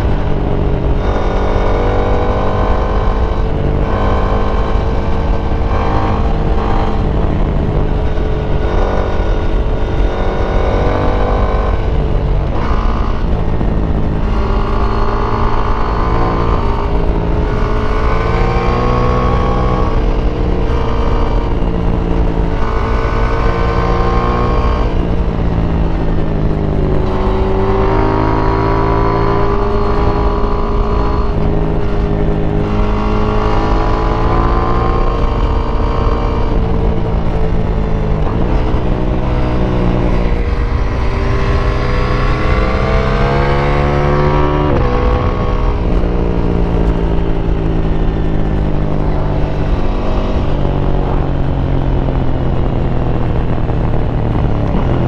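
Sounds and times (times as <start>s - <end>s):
motorcycle engine revving: 0.0s - 55.0s
steady low rumble: 2.2s - 55.0s.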